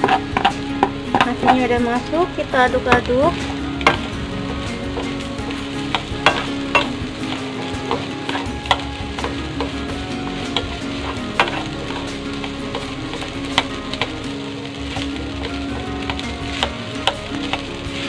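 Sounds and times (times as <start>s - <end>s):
rice sizzling in a wok: 0.0s - 18.0s
spatula scraping a pan: 0.0s - 18.0s.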